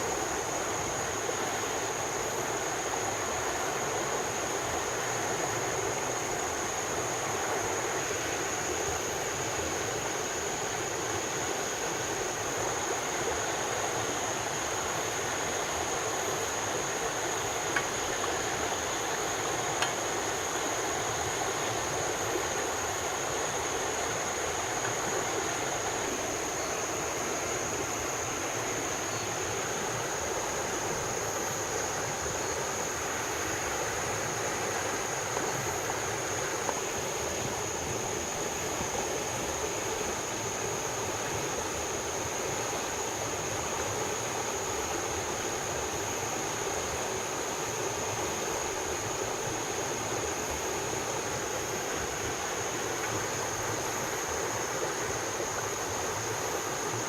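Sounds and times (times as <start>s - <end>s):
high-pitched insect drone: 0.0s - 57.0s
steady rushing water: 0.0s - 57.0s.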